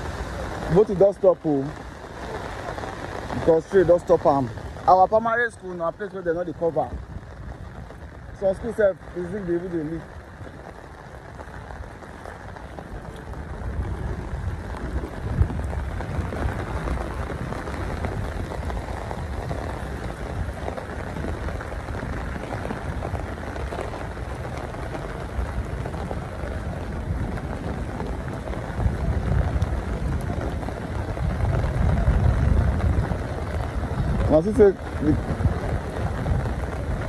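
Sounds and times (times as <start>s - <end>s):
rain on wet ground and puddles: 0.0s - 37.0s.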